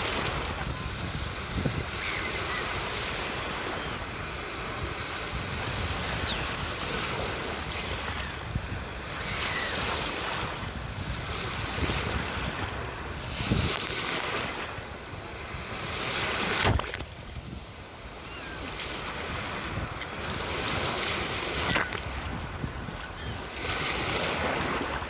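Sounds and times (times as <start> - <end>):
sea waves washing in: 0.0 - 25.0.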